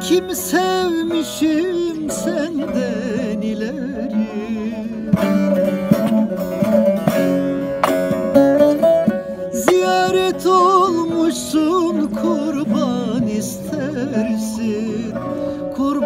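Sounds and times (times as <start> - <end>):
long-necked lute folk melody: 0.0 - 16.0.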